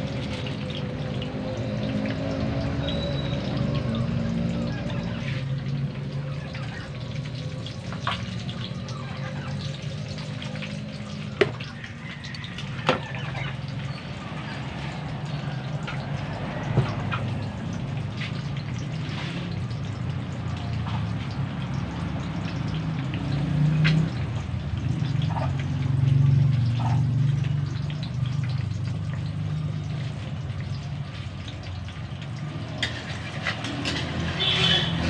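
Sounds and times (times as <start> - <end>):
eggs sizzling in oil: 0.0 - 35.0
oil popping and crackling: 0.0 - 35.0.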